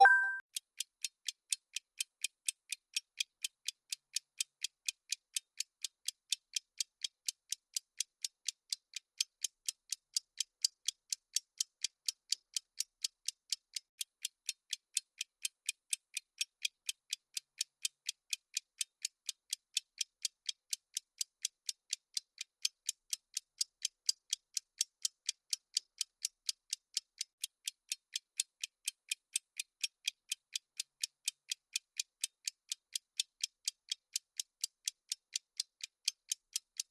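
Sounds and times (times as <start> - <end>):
timer ticking: 0.0 - 0.4, 1.0 - 36.9.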